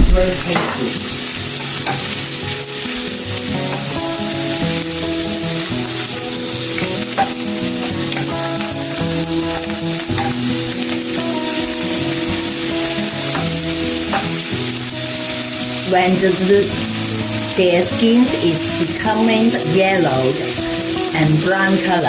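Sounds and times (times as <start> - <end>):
stirring clicks: 0.0 - 21.9
meat sizzling in a pan: 0.0 - 22.0
soft melody of held notes: 0.4 - 22.0.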